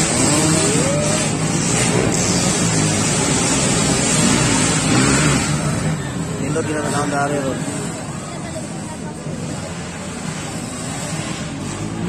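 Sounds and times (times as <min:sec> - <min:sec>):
voices calling out: 0:00.0 - 0:10.4
racing motorcycle engines: 0:00.0 - 0:12.0.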